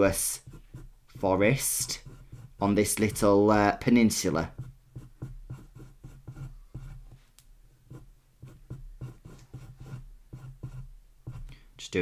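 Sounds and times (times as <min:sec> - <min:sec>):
pencil scratching on paper: 0:00.0 - 0:07.2, 0:07.9 - 0:11.5.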